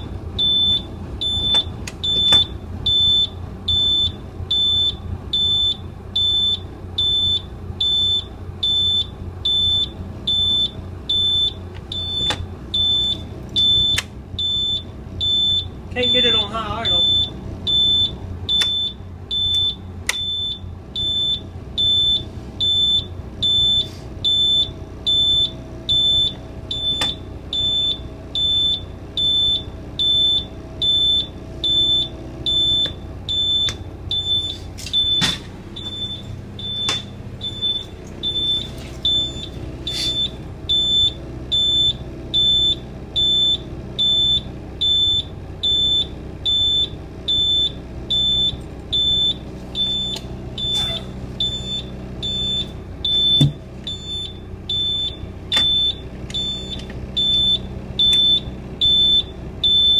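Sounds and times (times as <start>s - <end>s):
diesel engine idling: 0.0s - 59.9s
warning buzzer beeping: 0.4s - 59.9s.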